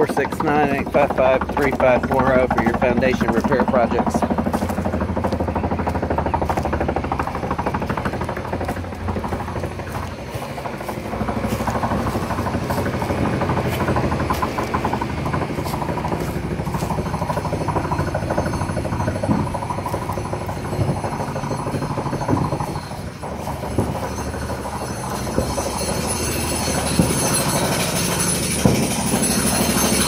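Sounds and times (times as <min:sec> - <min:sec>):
machinery rumble with rapid rattle: 0:00.0 - 0:30.0
sharp metallic knocks: 0:00.0 - 0:30.0.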